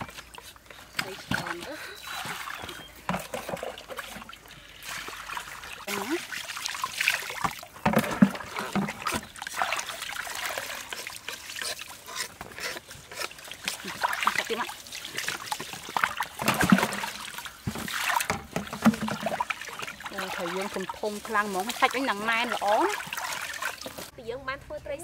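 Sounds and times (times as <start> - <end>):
water dripping: 0.0 - 12.0, 13.2 - 24.1
water splashing in a metal basin: 0.0 - 24.2.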